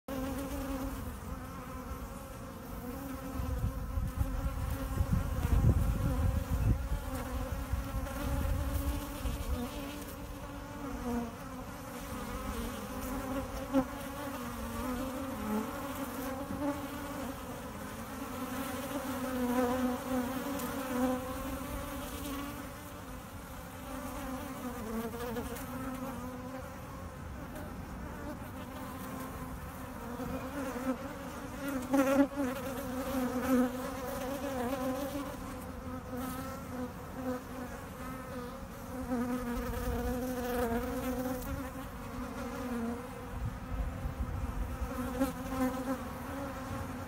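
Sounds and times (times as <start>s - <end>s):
honeybees buzzing: 0.1s - 47.0s.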